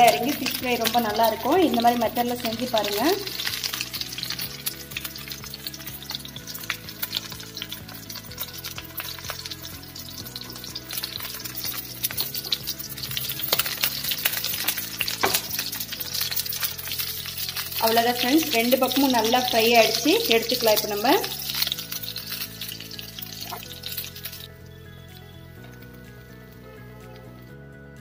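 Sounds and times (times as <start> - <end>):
oil popping: 0.0 - 24.7
fish sizzling in hot oil: 0.0 - 27.5.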